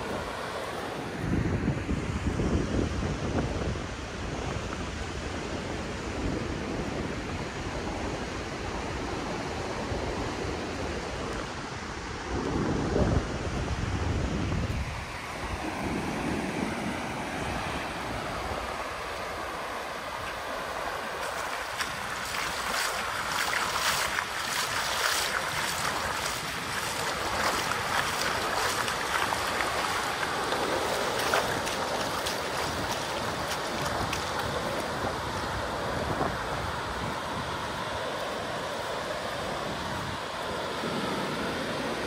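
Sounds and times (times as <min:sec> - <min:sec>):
surf washing on shore: 0:00.0 - 0:42.0
wind on microphone: 0:00.0 - 0:42.0.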